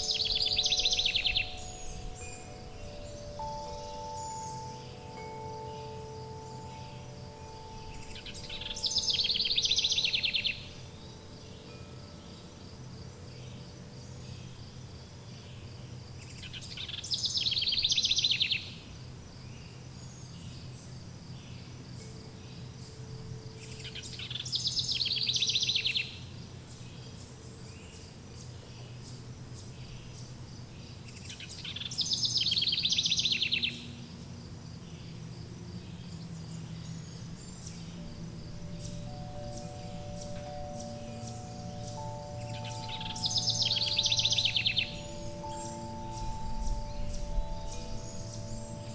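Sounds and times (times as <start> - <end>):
songbird trilling: 0.0 - 18.8, 19.6 - 48.9
insect chirring: 0.0 - 26.8, 29.0 - 48.9
faint wind chimes: 0.0 - 48.9.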